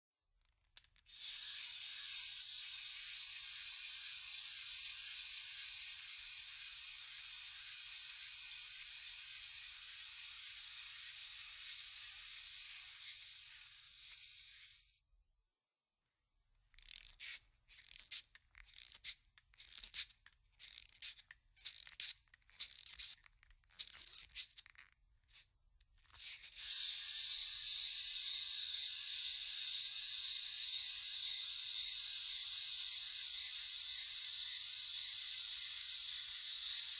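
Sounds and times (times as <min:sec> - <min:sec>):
wind-up toy whirring: 0:00.6 - 0:15.0, 0:16.6 - 0:36.9.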